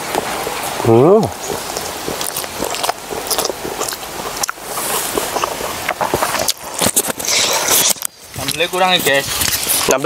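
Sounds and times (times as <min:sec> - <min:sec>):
person chewing and crunching food: 0:00.0 - 0:10.0.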